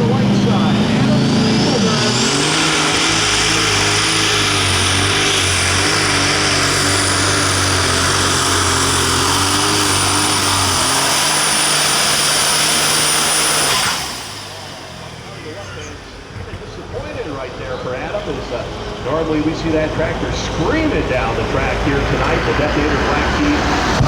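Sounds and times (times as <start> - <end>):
high whine: 0.0 - 24.0
tractor engine running hard: 0.0 - 24.0.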